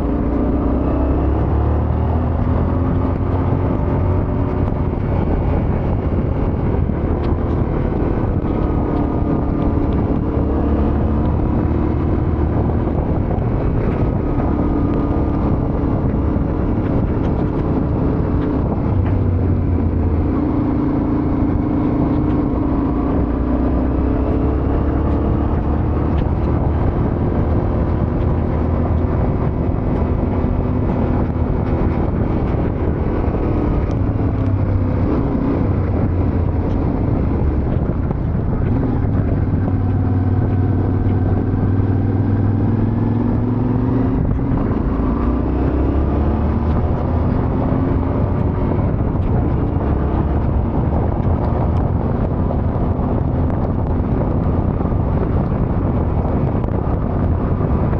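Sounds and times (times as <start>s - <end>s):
motorcycle engine revving: 0.0s - 57.9s
steady rush of noise: 0.0s - 57.9s.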